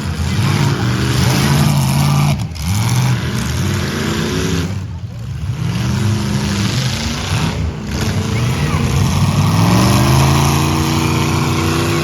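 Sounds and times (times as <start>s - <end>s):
car engines revving: 0.0s - 12.0s
noisy background: 0.0s - 12.0s.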